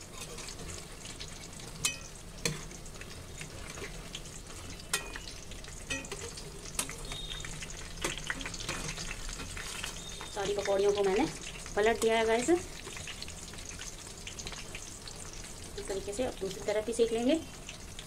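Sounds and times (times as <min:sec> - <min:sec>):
fritters sizzling in oil: 0:00.0 - 0:18.0.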